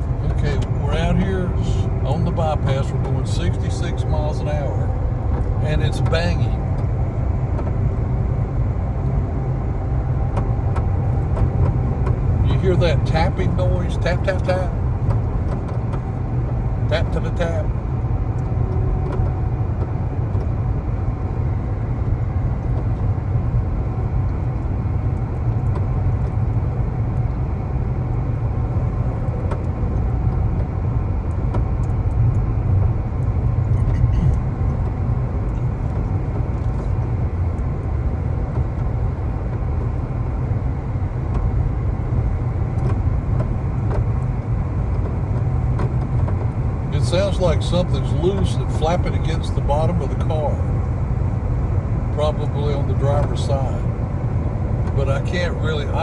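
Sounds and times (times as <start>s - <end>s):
road rumble inside car: 0.0s - 56.0s.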